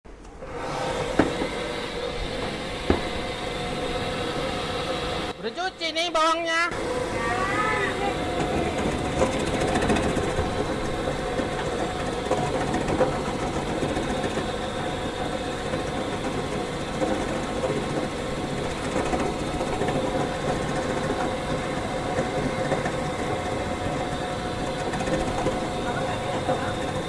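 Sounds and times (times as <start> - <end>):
onion slicing machine running: 0.1 - 27.0.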